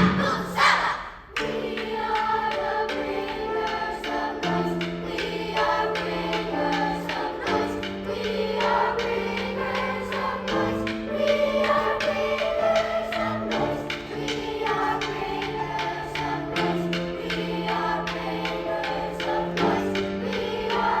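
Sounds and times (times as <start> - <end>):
sharp percussive hits: 0.0 - 21.0
youth choir singing: 0.0 - 21.0.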